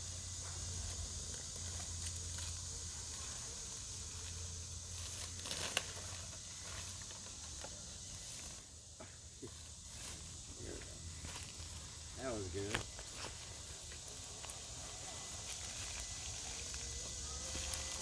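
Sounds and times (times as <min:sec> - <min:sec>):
small tyres crackling over dirt: 0:00.0 - 0:18.0.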